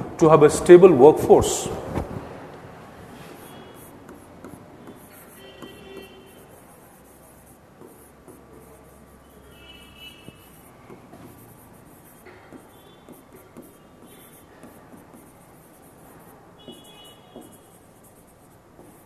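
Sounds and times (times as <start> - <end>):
pen writing on glass: 3.2 - 19.0
pen squeaking on glass: 3.4 - 19.0.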